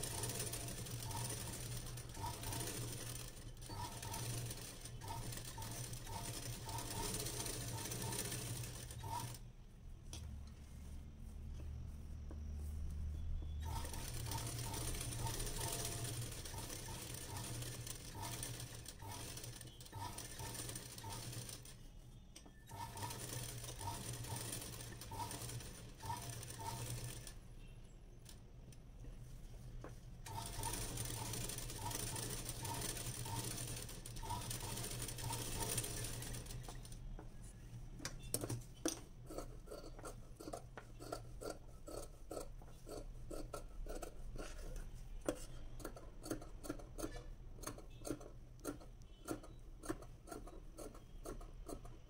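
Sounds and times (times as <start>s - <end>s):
sewing machine stitching: 0.0s - 9.4s, 13.6s - 21.8s, 22.7s - 27.4s, 30.2s - 37.0s, 38.2s - 52.0s.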